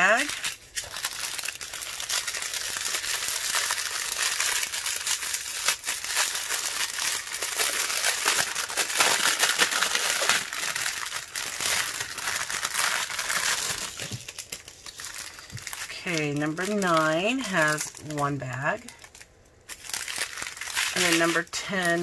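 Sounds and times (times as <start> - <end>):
plastic bags crinkling: 0.0 - 22.0.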